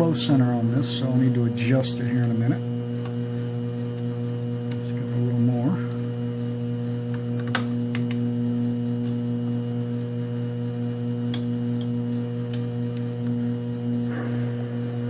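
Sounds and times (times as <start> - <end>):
lathe running with motor hum: 0.0 - 15.0.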